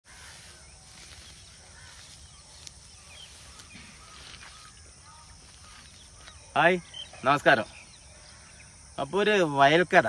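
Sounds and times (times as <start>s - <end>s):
faint bird chirps: 0.1s - 9.7s.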